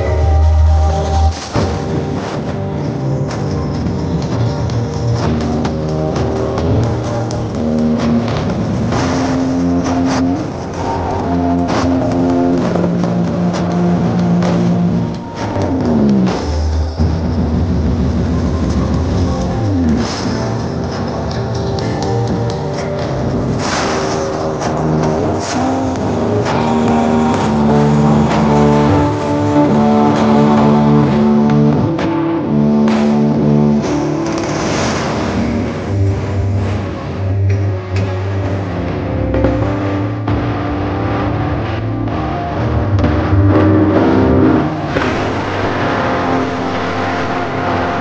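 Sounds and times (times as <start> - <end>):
bass-heavy electronic music: 0.0 - 48.0.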